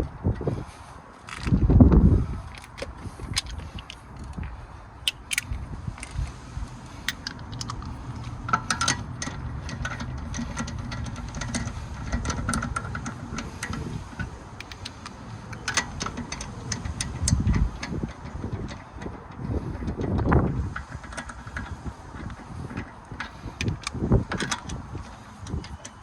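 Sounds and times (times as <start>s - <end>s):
steady low rumble: 0.0s - 25.8s.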